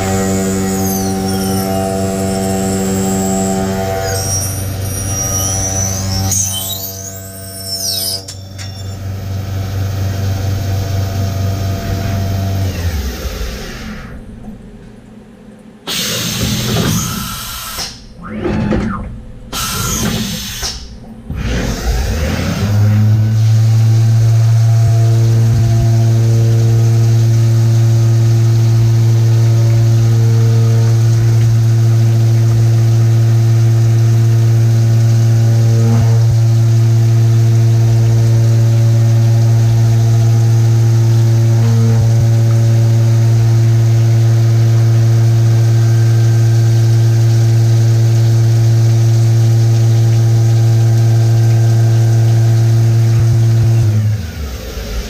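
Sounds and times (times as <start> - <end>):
milling machine humming: 0.0 - 55.0.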